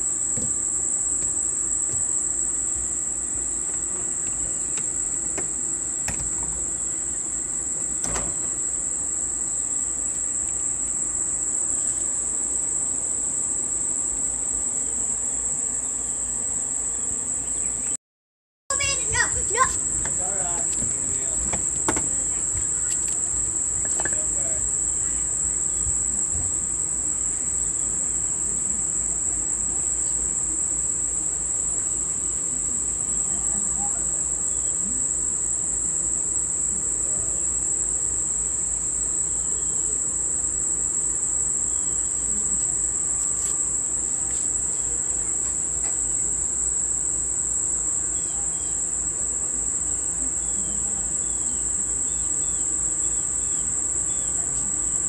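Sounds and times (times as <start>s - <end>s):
insects trilling: 0.0s - 18.0s, 18.7s - 55.0s.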